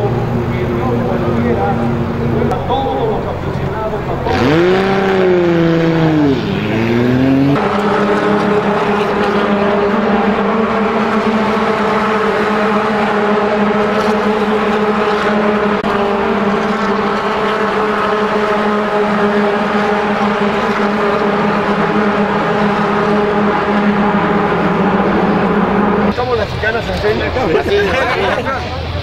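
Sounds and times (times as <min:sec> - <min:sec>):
steady engine drone of trucks: 0:00.0 - 0:29.0
truck engine revving: 0:00.0 - 0:29.0.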